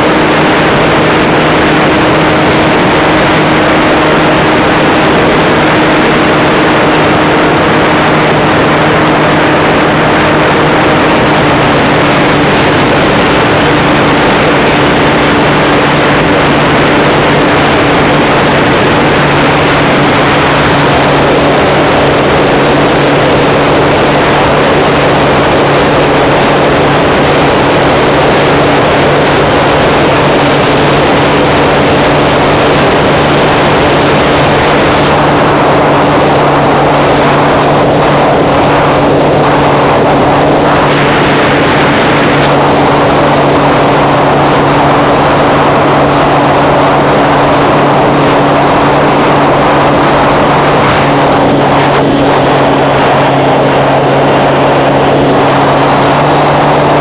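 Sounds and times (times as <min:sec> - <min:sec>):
model plane motor humming: 0:00.0 - 0:57.0
wind noise rushing: 0:00.0 - 0:57.0.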